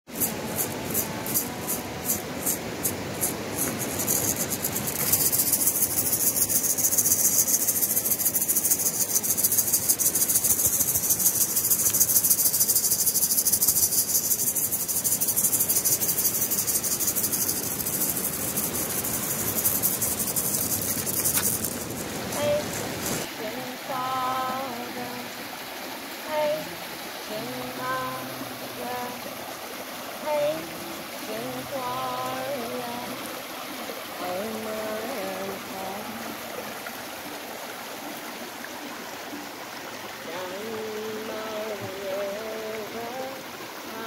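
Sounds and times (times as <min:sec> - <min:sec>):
insect high trill: 0:00.1 - 0:36.1
insect chirping: 0:00.1 - 0:44.0.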